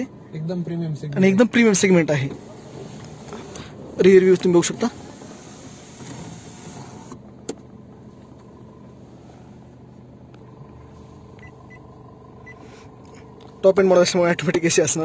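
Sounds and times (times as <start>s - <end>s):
car engine hum in cabin: 0.0s - 15.0s.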